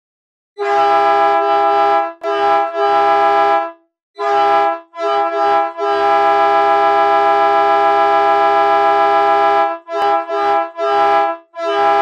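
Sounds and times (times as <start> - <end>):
train air horn blasts: 0.6 - 12.0.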